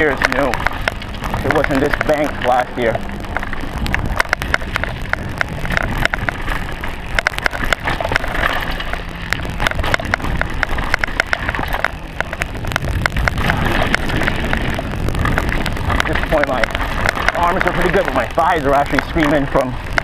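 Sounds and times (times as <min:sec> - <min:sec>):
bike clicks and rattles: 0:00.0 - 0:20.0
tyres rumbling over dirt: 0:00.0 - 0:20.0
wind buffeting microphone: 0:00.0 - 0:20.0.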